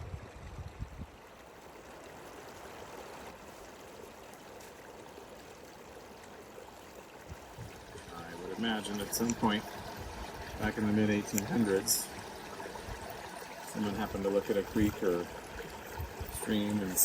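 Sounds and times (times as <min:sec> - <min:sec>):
creek flowing: 0:00.0 - 0:17.0.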